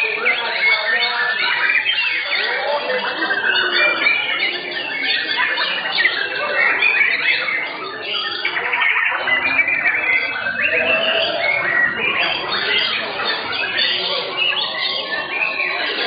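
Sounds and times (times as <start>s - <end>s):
birds singing whistles and trills: 0.0s - 16.0s.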